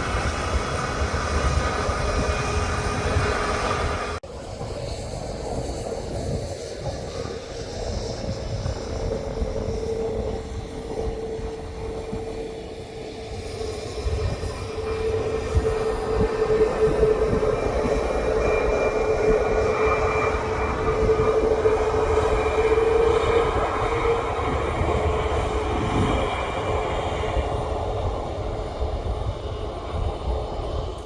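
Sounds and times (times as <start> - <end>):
jet engines humming: 0.0 - 31.0.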